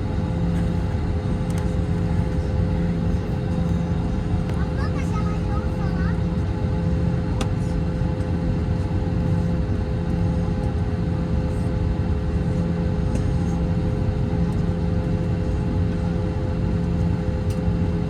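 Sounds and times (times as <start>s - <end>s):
aircraft low rumble and hum: 0.0s - 18.0s.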